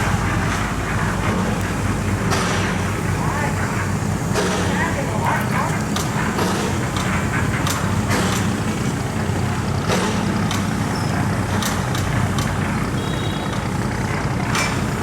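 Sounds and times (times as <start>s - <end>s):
boat diesel engine droning: 0.0s - 15.0s.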